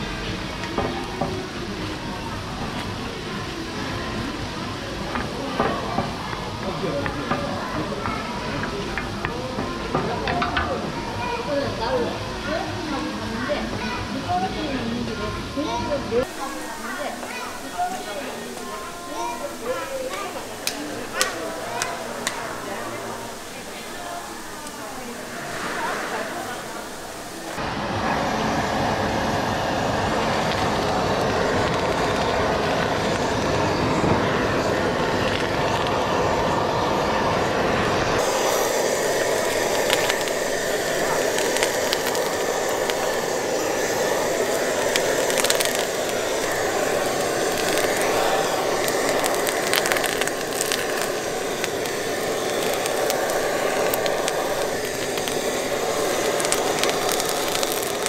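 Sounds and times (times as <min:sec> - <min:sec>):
food sizzling and crackling: 0:00.0 - 0:58.0
strong gas flame: 0:00.0 - 0:58.0.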